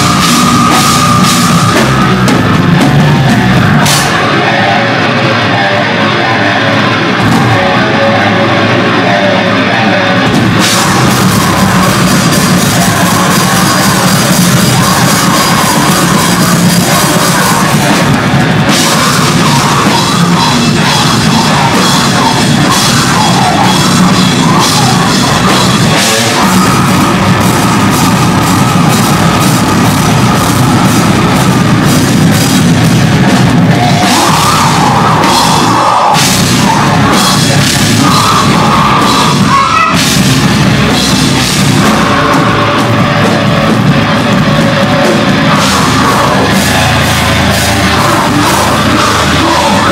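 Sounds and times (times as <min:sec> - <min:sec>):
distorted electric guitars: 0:00.0 - 0:49.9
metal band playing: 0:00.0 - 0:49.9
pounding drum kit: 0:00.0 - 0:49.9.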